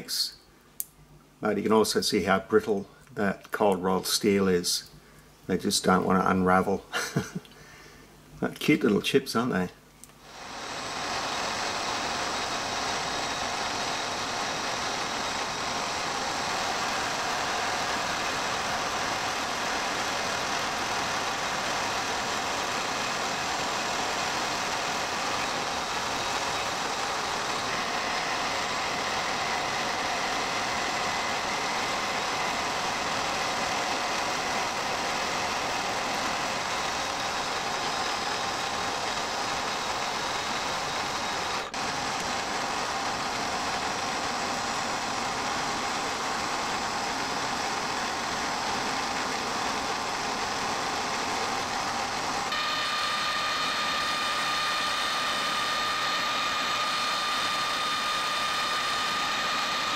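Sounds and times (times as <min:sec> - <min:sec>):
metal lathe cutting steel: 0:10.3 - 0:59.9.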